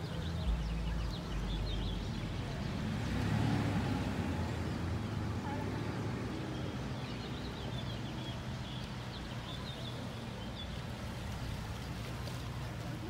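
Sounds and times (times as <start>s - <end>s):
small birds chirping: 0.0s - 3.7s, 4.5s - 13.0s.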